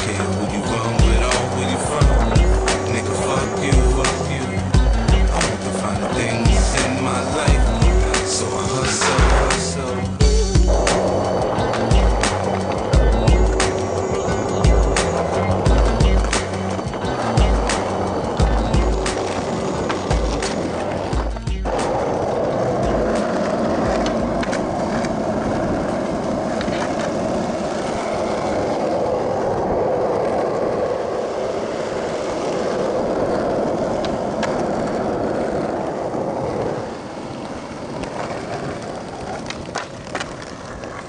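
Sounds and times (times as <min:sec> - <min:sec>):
skateboard clacks: 0:00.0 - 0:41.0
skateboard wheels rolling on asphalt: 0:00.0 - 0:41.0.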